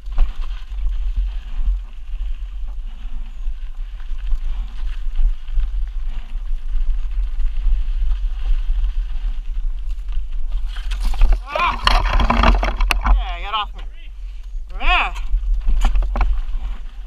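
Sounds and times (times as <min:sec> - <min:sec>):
bike rattling over rocks: 0:00.0 - 0:17.0
wind buffeting microphone: 0:00.0 - 0:17.0
tyres crunching over dirt: 0:02.3 - 0:17.0.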